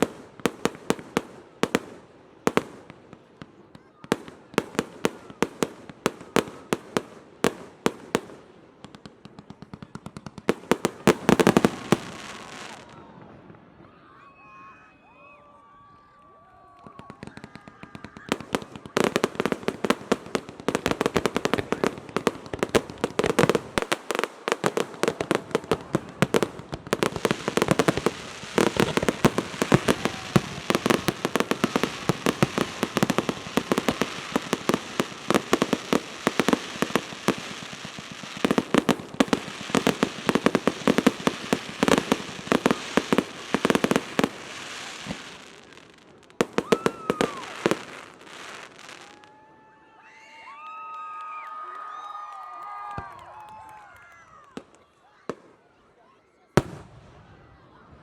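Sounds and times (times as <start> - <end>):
fireworks crackling: 0.0 - 13.9, 16.8 - 49.5, 56.6 - 57.6.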